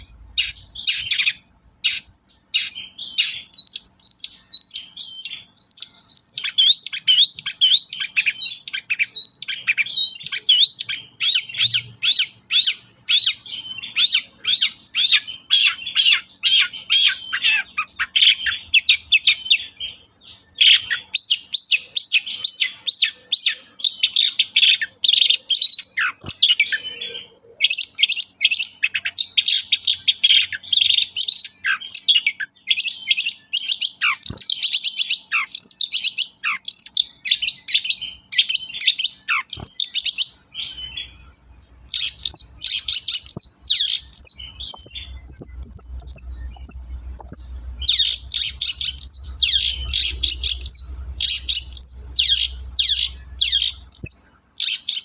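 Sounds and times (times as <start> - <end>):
bird singing high looping notes: 0.0 - 55.0.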